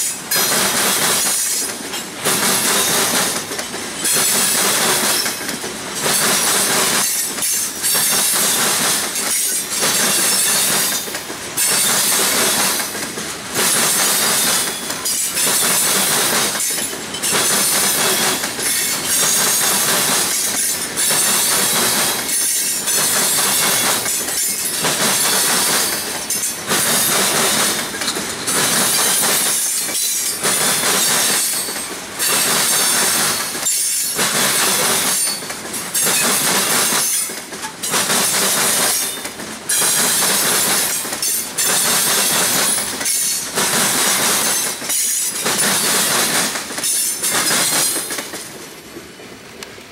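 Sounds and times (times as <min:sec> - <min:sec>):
train wheels clattering over crossing: 0:00.0 - 0:49.8.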